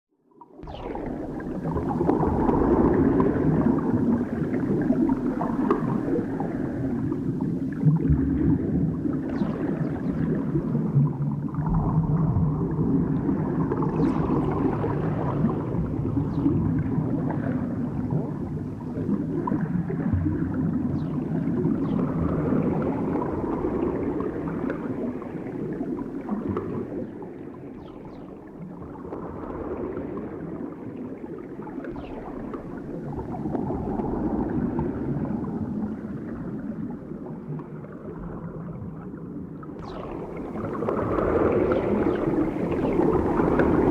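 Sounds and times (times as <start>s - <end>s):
underwater churning and gurgling: 0.4s - 43.9s.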